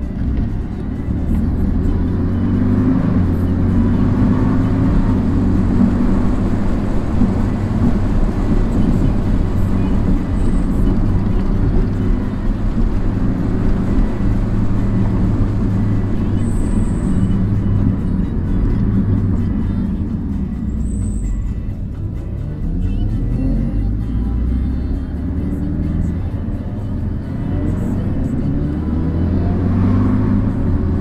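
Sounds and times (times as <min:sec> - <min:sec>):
sports car engine running: 0:00.0 - 0:31.0.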